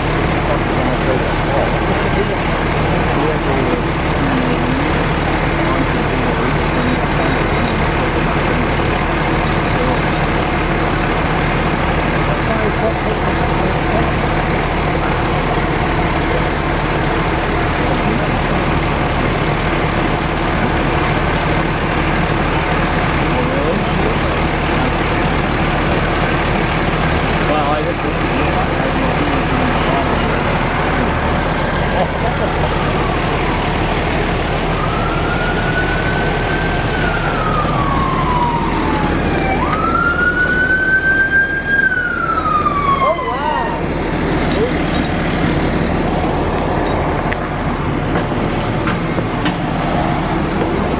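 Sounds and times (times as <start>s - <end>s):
emergency siren wailing: 0.0s - 50.9s
fire truck engine idling: 0.0s - 50.9s.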